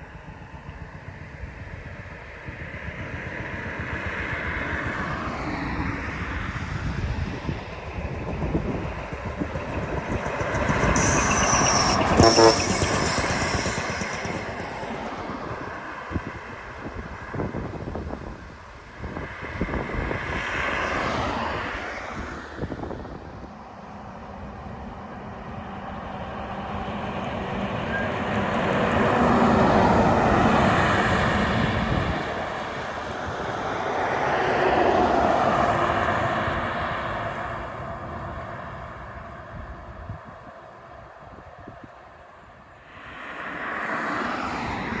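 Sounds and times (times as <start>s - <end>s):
engine hum: 0.0s - 40.1s
heavy trucks passing: 0.3s - 40.2s.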